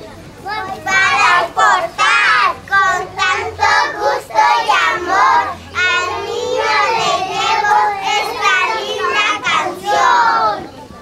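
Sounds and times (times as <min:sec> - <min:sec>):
young children singing: 0:00.4 - 0:10.7.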